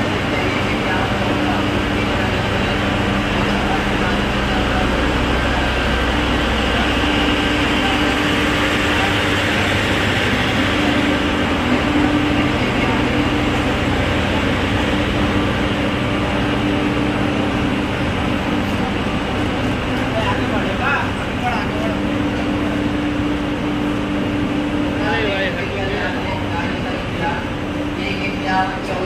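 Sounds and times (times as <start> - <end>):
crowd chatter: 0.0 - 27.6
diesel generator drone: 0.0 - 29.0.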